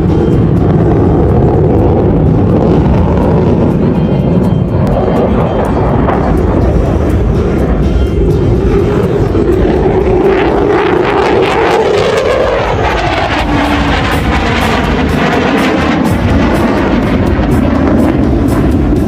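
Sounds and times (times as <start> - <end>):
aircraft engine flying past: 0.0 - 19.0.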